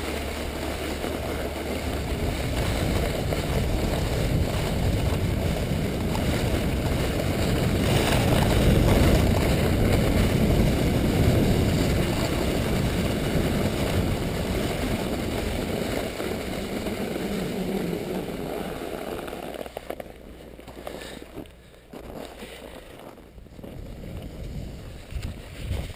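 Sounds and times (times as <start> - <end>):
sled runners scraping over snow: 0.0 - 25.9.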